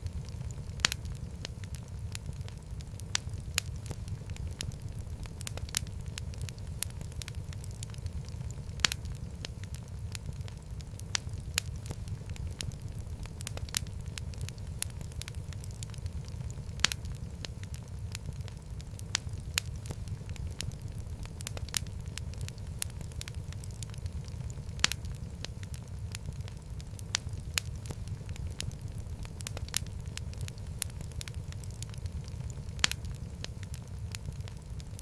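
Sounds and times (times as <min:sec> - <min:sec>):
fire crackling and popping: 0:00.0 - 0:35.0
fire rumbling: 0:00.0 - 0:35.0.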